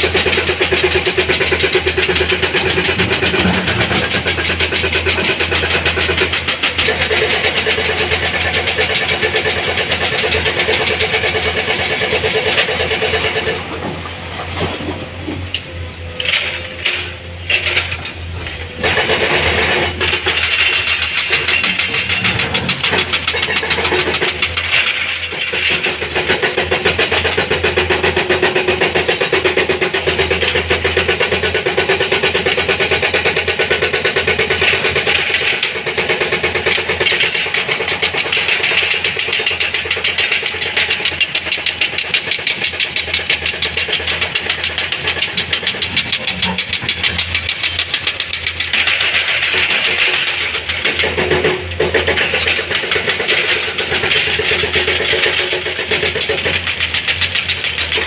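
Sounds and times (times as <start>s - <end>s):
excavator diesel engine droning: 0.0s - 35.9s, 36.6s - 58.0s.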